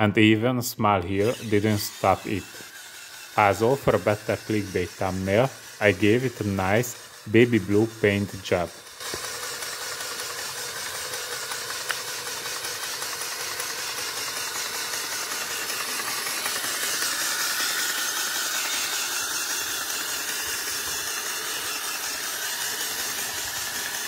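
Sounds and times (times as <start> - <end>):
solenoid engine rattling: 1.2 - 24.0.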